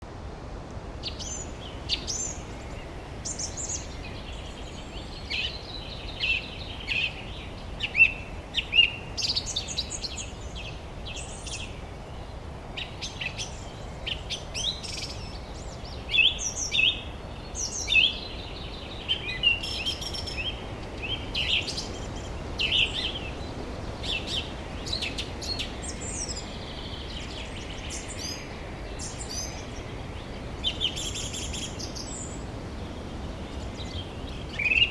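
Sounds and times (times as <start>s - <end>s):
low background noise: 0.0s - 34.9s.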